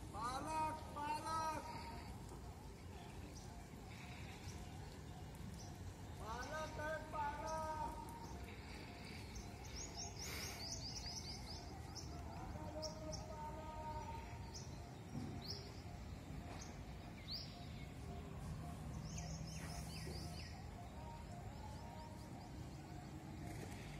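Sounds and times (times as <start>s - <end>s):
small birds chirping: 0.1s - 23.9s.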